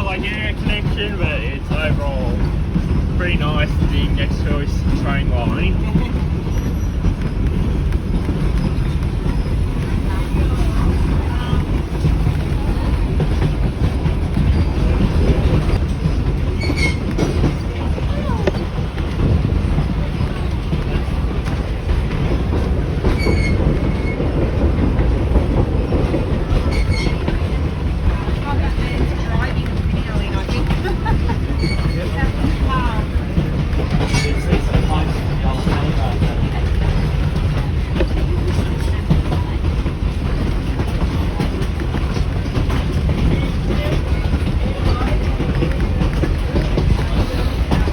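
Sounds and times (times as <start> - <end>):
train carriage rumble: 0.0 - 47.9
wheels clacking over rail joints: 0.0 - 47.9.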